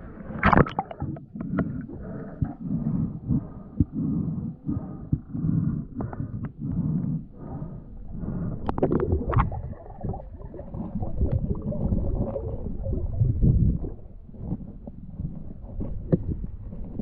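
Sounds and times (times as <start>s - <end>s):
muffled underwater gurgling: 0.0s - 17.0s.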